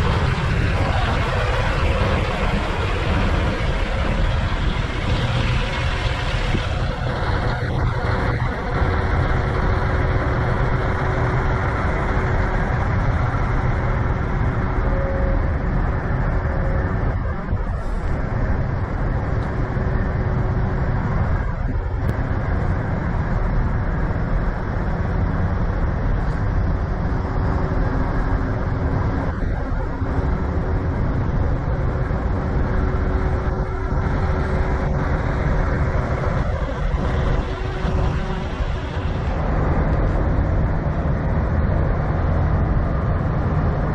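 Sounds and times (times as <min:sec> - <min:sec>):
diesel truck engines rumbling: 0:00.0 - 0:43.9
road traffic noise: 0:00.0 - 0:43.9.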